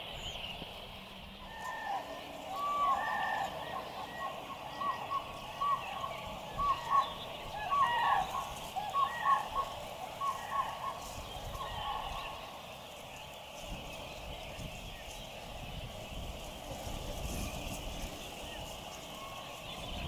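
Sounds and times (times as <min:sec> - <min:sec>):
chorus of animal calls: 0:00.0 - 0:20.0.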